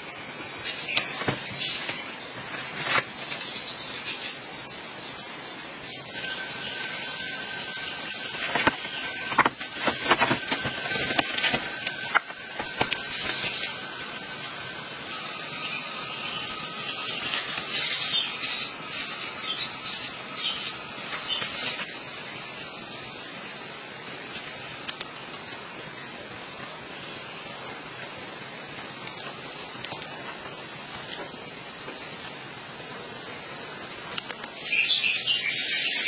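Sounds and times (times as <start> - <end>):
leaves and twigs rustling and snapping: 0.4 - 4.4, 5.0 - 36.0.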